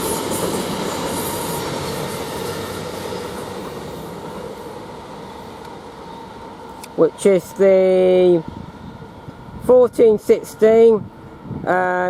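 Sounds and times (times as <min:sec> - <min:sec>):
electric train departing: 0:00.0 - 0:12.0.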